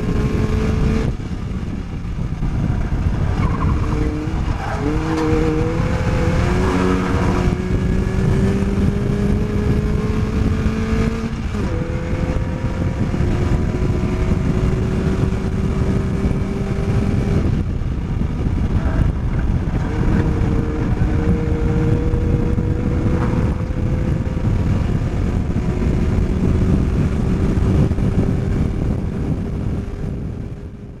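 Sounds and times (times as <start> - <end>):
race car engine revving: 0.0 - 30.7
heavy wind: 0.0 - 31.0
road rumble: 0.0 - 31.0.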